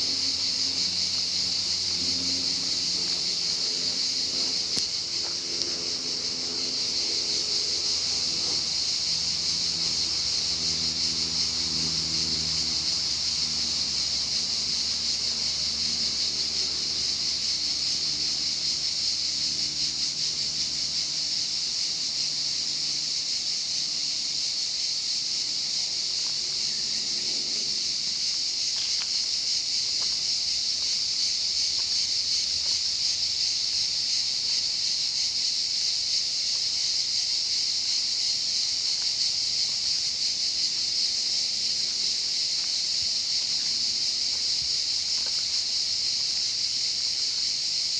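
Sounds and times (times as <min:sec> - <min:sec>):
cicadas buzzing: 0:00.0 - 0:47.9.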